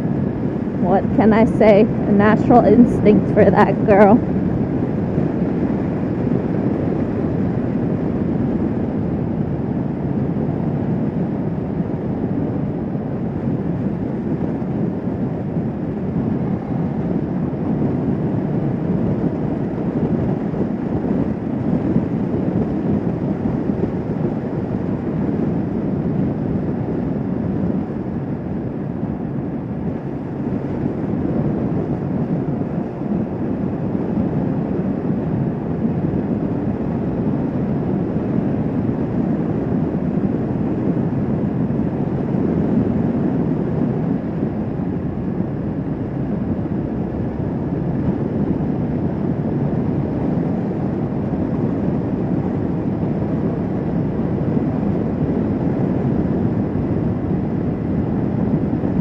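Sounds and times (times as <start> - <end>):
motorcycle engine and wind roar: 0.0 - 59.0.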